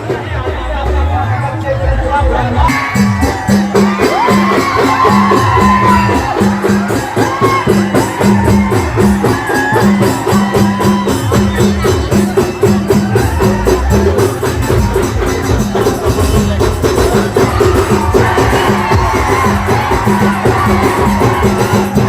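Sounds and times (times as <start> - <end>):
live band music: 0.0 - 22.0
repeating drum beat: 0.0 - 22.0.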